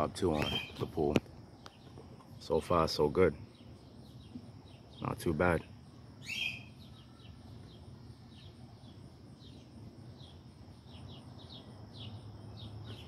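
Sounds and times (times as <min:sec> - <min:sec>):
bird chirping: 0:00.0 - 0:13.0
faint high pulsing buzz: 0:00.0 - 0:13.0.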